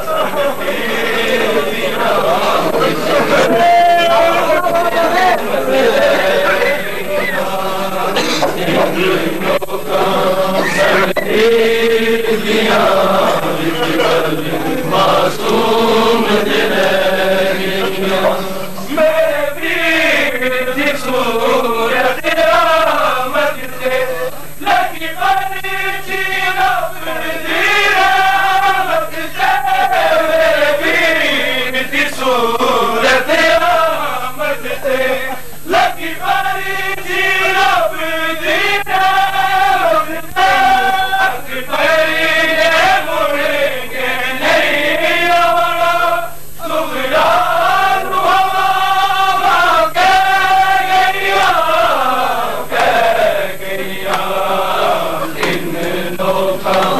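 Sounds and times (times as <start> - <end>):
men chanting a lament: 0.0 - 56.9.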